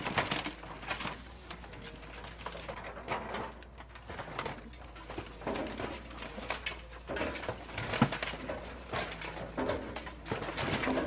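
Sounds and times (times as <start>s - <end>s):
metal crunching and creaking: 0.0s - 11.0s.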